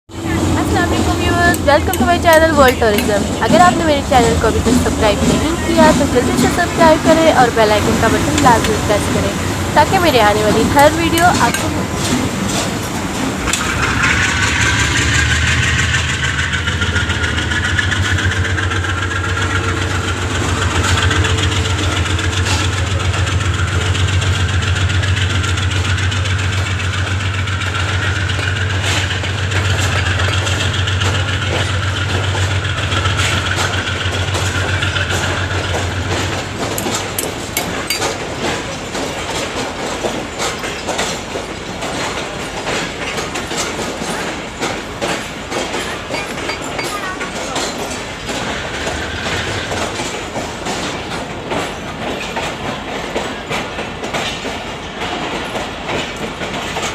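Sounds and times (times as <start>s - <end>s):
diesel locomotive engine drone: 0.0s - 56.9s
train wheels clicking on rails: 0.1s - 56.9s.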